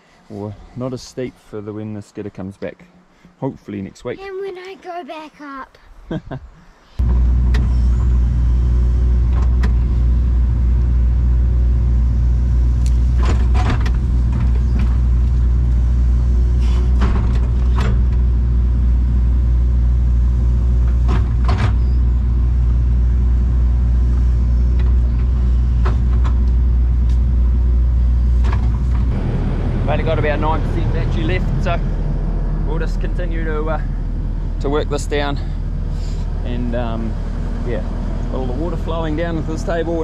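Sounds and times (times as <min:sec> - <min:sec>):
excavator engine running: 0:07.0 - 0:40.0.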